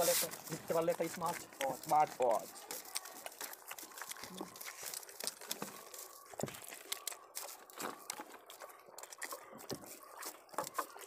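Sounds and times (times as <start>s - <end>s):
eating rice by hand: 0.0s - 11.0s.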